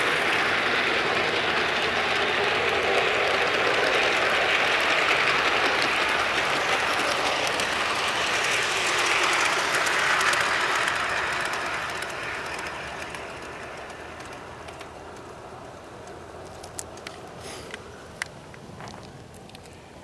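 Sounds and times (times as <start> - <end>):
model train wheels on rails: 0.0 - 20.0.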